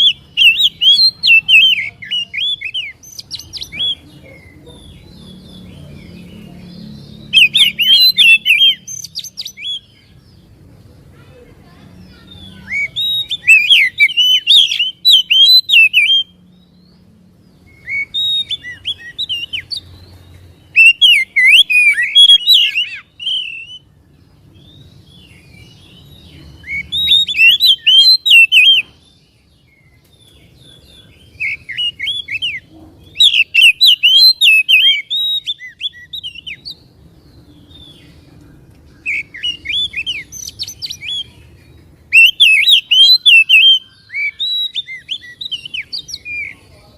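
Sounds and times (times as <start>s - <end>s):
bird singing whistled notes: 0.0s - 10.5s, 12.1s - 46.7s.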